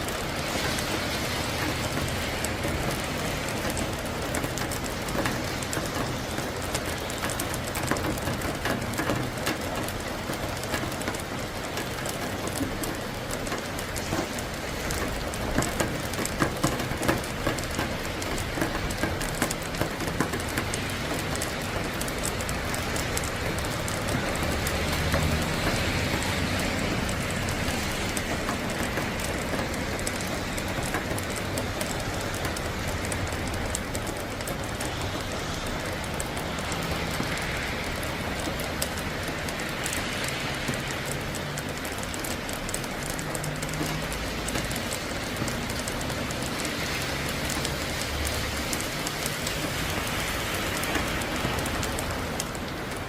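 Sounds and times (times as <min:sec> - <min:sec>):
steady rain patter: 0:00.0 - 0:53.0.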